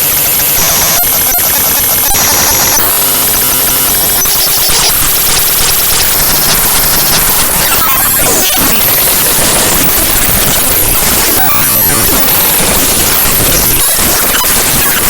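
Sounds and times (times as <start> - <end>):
harsh digital noise and buzzing: 0.0 - 15.0.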